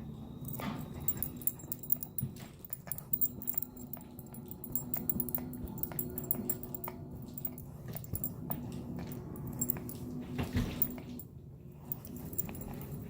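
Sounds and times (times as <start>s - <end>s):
dog chewing: 0.5s - 11.2s, 11.9s - 13.0s.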